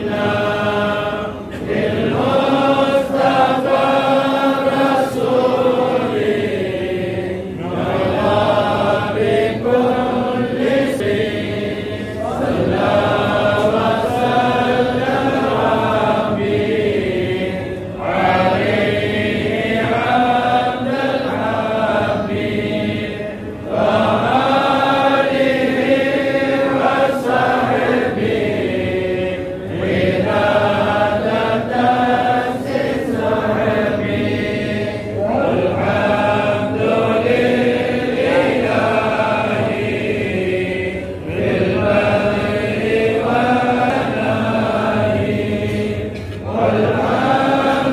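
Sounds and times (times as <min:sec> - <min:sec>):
men chanting in unison: 0:00.0 - 0:47.9.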